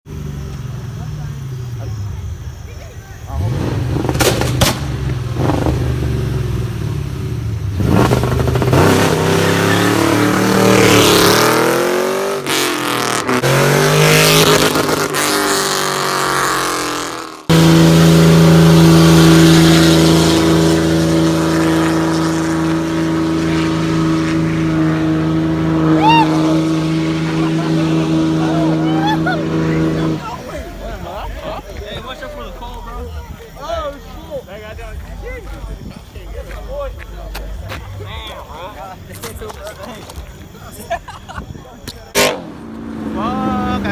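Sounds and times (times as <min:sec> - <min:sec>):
car engine revving: 0:00.1 - 0:41.0, 0:41.8 - 0:43.9.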